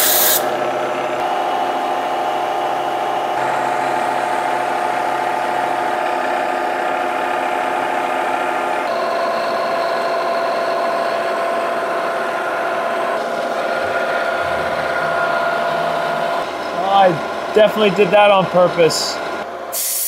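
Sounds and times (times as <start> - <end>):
milling machine whine: 0.0 - 19.8.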